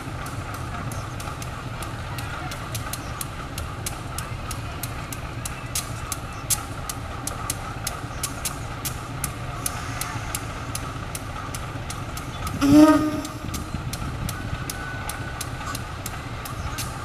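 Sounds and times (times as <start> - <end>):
locomotive engine idling: 0.0 - 17.0.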